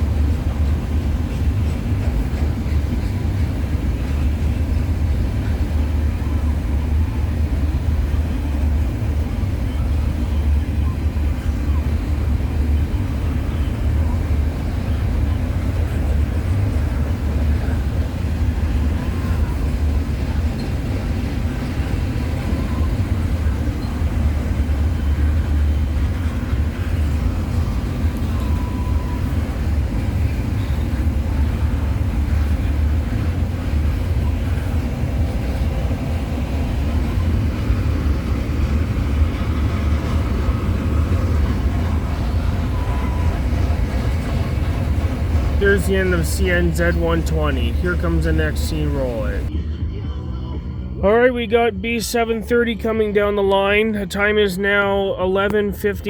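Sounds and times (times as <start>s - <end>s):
freight train wheels rumbling on rail: 0.0s - 51.0s.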